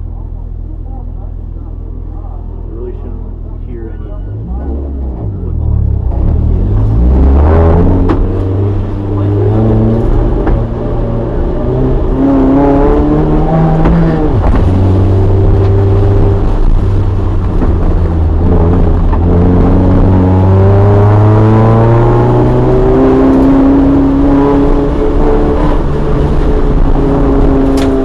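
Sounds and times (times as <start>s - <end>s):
car engine revving hard: 4.3s - 28.0s.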